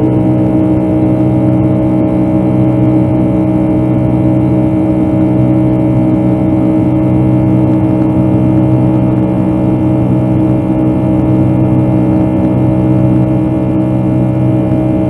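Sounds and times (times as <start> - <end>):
jet engine drone in cabin: 0.0 - 15.0.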